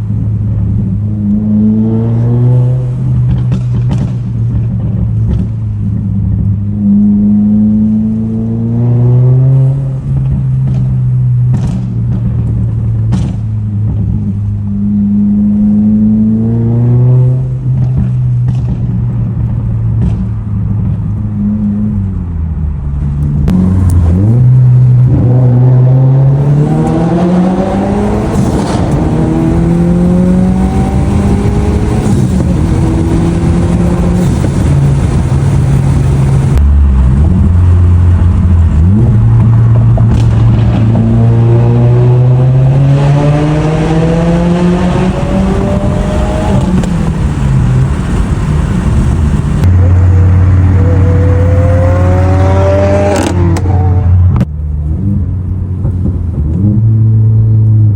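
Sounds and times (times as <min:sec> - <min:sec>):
car engine accelerating hard: 0:00.0 - 0:57.9.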